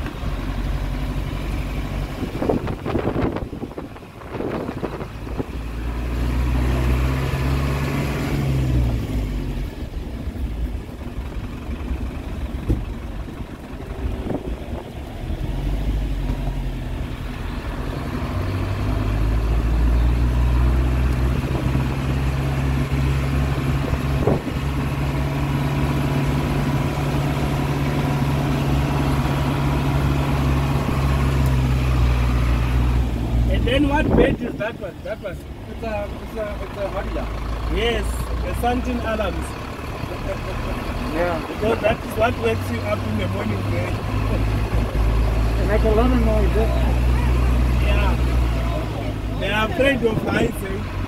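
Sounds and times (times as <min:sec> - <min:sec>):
truck engine rumbling: 0:00.0 - 0:51.0.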